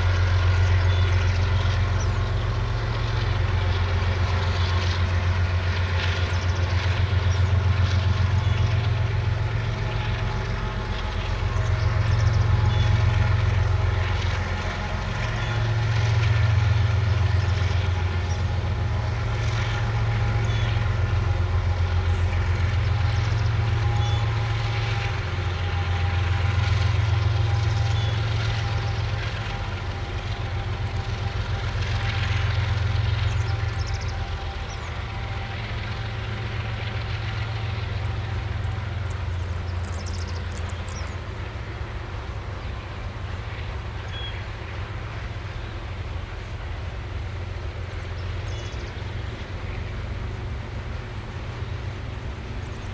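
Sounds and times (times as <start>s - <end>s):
diesel locomotive engine drone: 0.0s - 52.9s
freight train rumbling: 0.0s - 52.9s.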